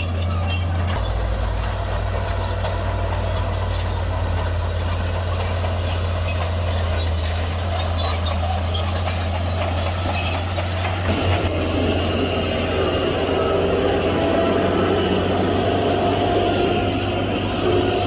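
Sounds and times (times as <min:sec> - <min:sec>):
diesel machinery droning: 0:00.0 - 0:18.0.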